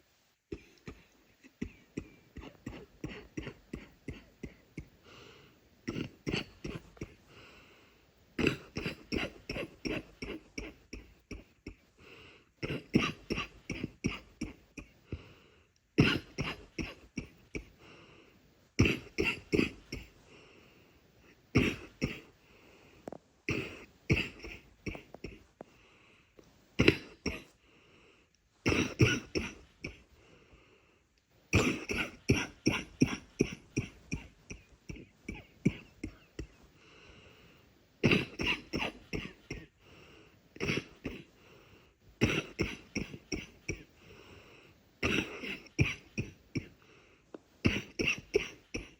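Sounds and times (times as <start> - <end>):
person coughing: 0.5 - 7.2, 8.4 - 15.4, 16.0 - 18.0, 18.8 - 20.5, 21.2 - 22.6, 23.5 - 25.9, 26.8 - 27.6, 28.6 - 30.1, 31.5 - 37.2, 38.0 - 41.6, 42.2 - 48.9.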